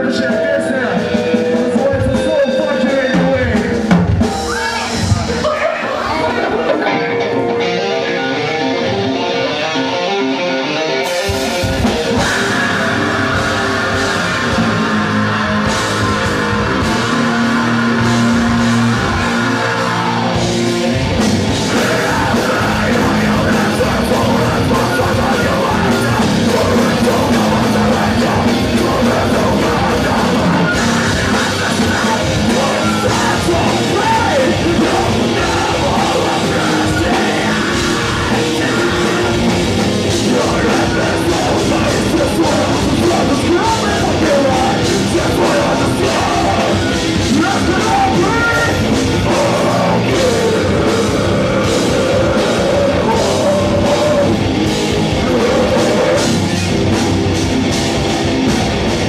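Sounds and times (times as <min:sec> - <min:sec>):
person singing: 0:00.0 - 0:57.0
drums: 0:00.0 - 0:59.0
metal band playing live: 0:00.0 - 0:59.0.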